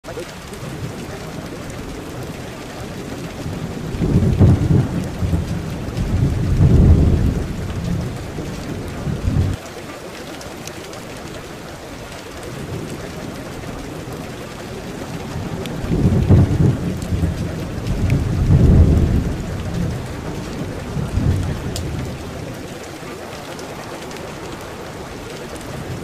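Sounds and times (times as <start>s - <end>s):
steady rain: 0.0s - 26.0s
rolling thunder: 0.6s - 9.6s, 12.6s - 26.0s.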